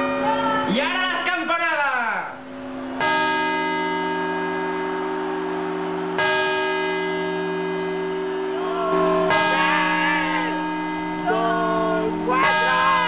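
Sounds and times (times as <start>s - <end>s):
clock bell striking: 0.0s - 0.8s, 2.4s - 13.0s.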